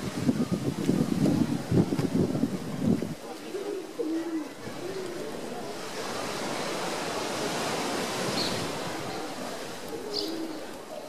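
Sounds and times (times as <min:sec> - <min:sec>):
ocean surf on sandy beach: 0:00.0 - 0:11.0.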